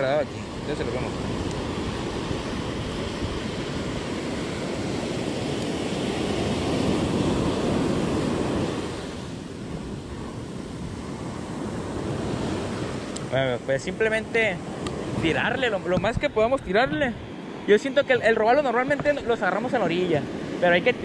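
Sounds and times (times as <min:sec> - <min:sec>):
surf washing up a beach: 0:00.0 - 0:21.0
wind on microphone: 0:00.0 - 0:21.0.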